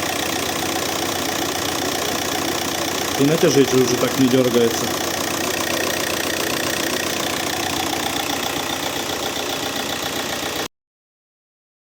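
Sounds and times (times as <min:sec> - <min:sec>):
diesel engine idling: 0:00.0 - 0:10.7.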